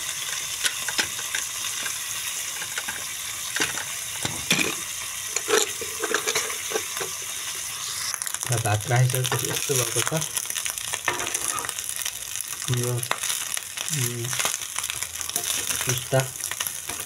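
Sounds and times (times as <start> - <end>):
meat sizzling in oil: 0.0 - 17.0.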